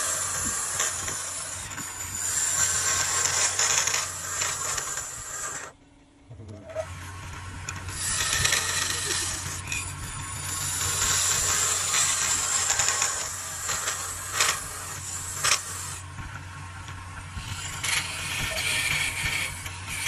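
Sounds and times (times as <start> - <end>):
lathe humming: 0.0 - 5.8, 6.7 - 20.0
scraper rasping on spinning wood: 0.0 - 5.8, 6.8 - 20.0.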